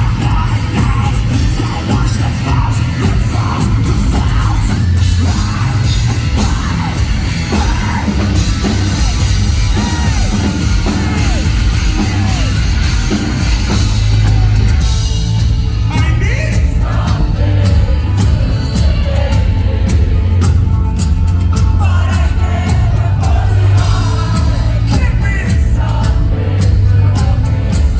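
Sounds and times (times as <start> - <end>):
sung and shouted vocals: 0.0 - 15.0, 15.9 - 27.9
heavy metal band playing: 0.0 - 27.9
loud drums: 0.0 - 27.9.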